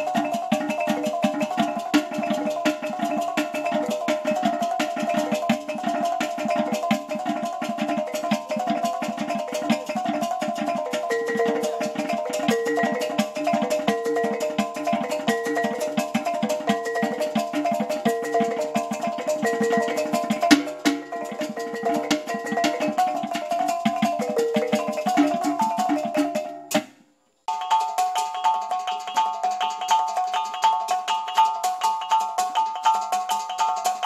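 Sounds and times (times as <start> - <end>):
music with fast percussion: 0.0 - 34.0.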